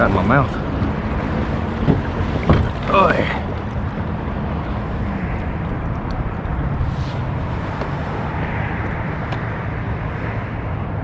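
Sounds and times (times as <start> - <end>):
water moving along hull: 0.0 - 9.3
wind buffeting microphone: 0.0 - 11.0.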